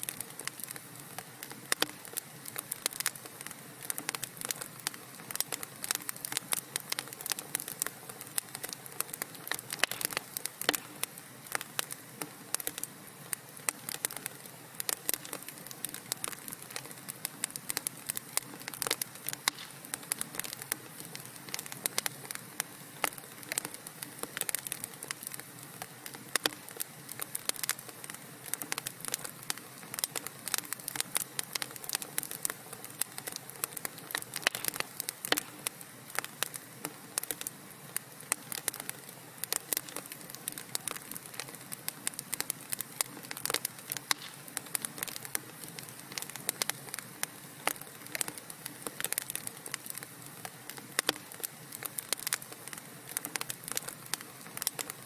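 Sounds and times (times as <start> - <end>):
soft steady hiss: 0.0 - 55.0
wood fire crackling and popping: 0.0 - 55.0.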